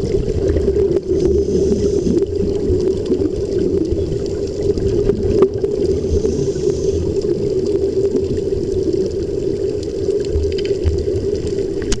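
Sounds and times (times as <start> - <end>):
underwater bubbling: 0.0 - 12.0.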